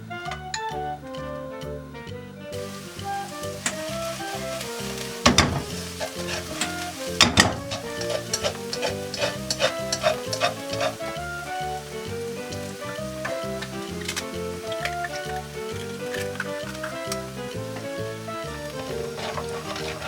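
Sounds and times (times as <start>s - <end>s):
background music: 0.0s - 20.0s
food sizzling in a pan: 2.6s - 20.0s
utensil knocking against pan: 3.1s - 20.0s.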